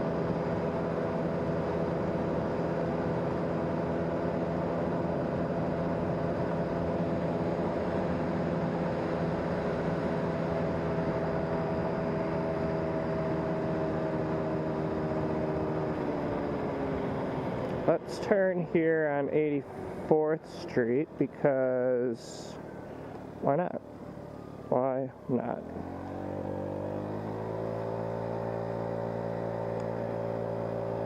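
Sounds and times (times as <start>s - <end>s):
road and wind noise: 0.0s - 31.0s
vehicle engine cruising: 0.0s - 31.0s.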